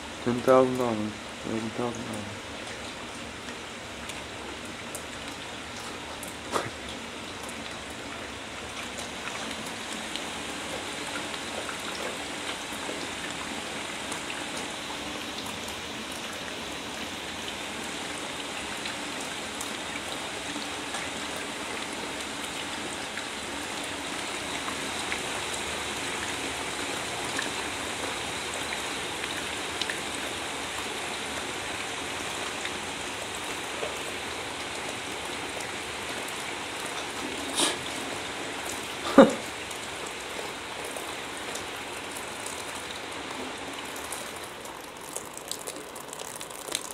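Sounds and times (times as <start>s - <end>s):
falling water patter: 0.0s - 46.9s
small drips: 0.6s - 46.9s.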